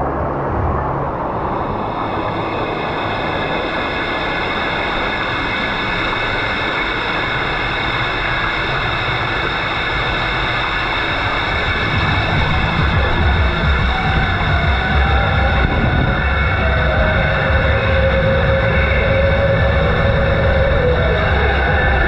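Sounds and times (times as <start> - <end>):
deep low rumble: 0.0 - 22.0
race car sound effect over speakers: 0.0 - 22.0.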